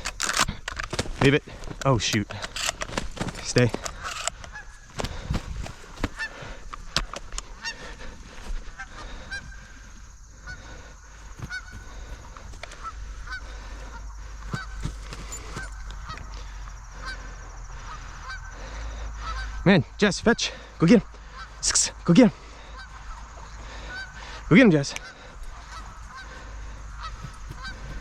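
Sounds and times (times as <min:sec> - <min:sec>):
geese honking: 0:03.4 - 0:19.7, 0:20.5 - 0:28.0.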